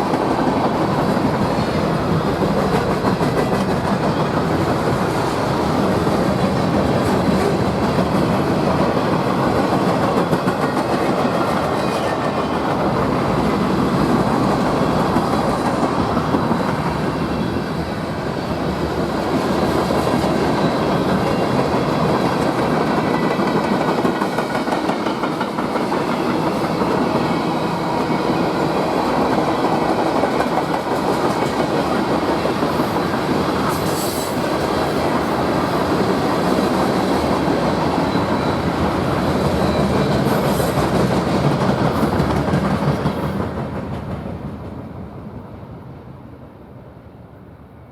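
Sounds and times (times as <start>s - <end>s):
freight train rolling on rails: 0.0s - 47.9s.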